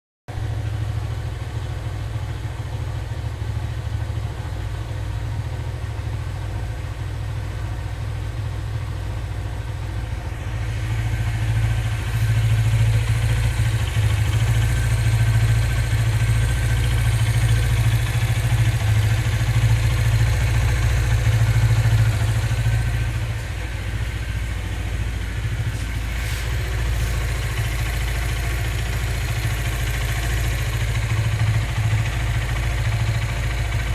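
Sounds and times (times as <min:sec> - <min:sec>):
motorcycle engine knocking: 0:00.5 - 0:33.9.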